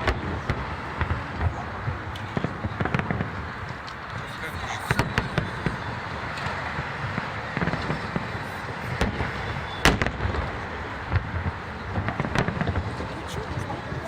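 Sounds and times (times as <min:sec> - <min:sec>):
continuous noisy background: 0:00.0 - 0:14.0
fireworks bangs: 0:00.0 - 0:14.0.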